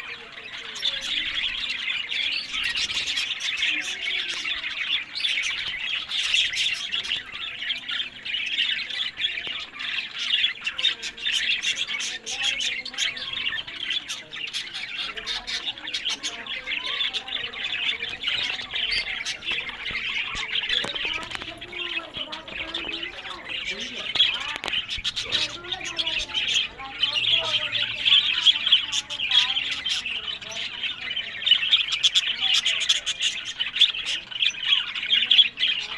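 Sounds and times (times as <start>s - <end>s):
budgerigars chattering: 0.0s - 35.9s.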